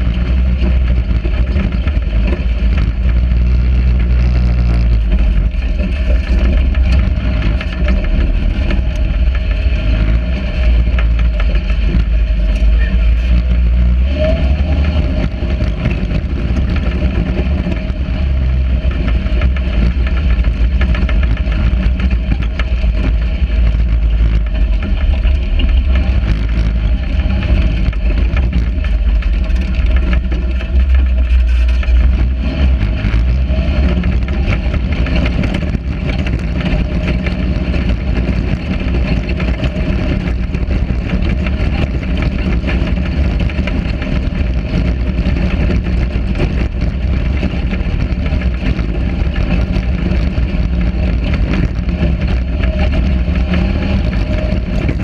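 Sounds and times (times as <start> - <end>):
buggy engine running: 0.0 - 55.0
low rumble of ride and wind: 0.0 - 55.0.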